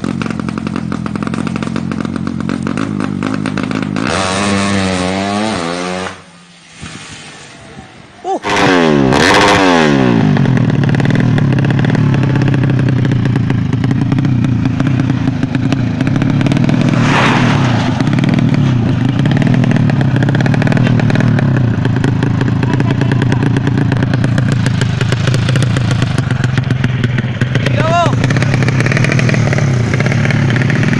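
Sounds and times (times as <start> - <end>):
motorcycle engine running loudly: 0.0 - 5.6, 8.4 - 30.9.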